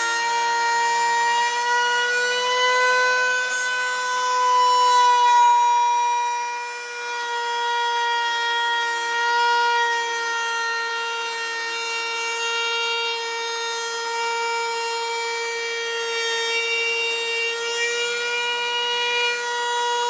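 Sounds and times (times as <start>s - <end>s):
router motor whining: 0.0s - 20.0s.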